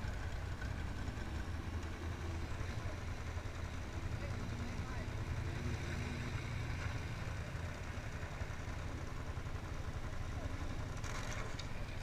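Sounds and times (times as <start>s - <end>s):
quad bike engines idling: 0.0s - 12.0s.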